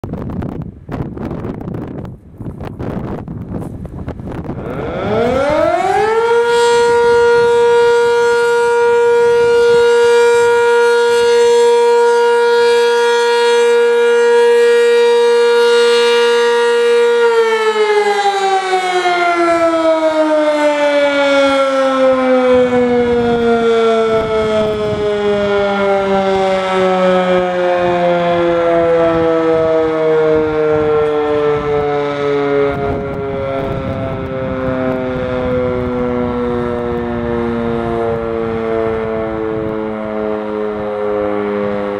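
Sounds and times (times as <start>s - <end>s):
mechanical siren wailing: 0.0s - 41.9s
wind gusting on microphone: 0.0s - 41.9s.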